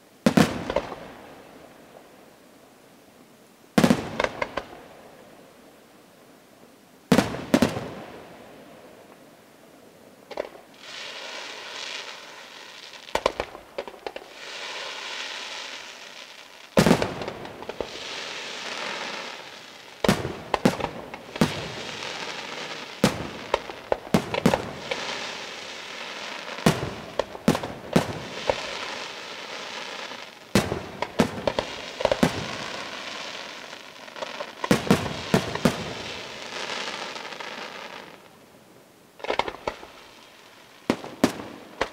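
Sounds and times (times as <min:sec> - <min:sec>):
fireworks crackling and sizzling: 0:00.0 - 0:41.9.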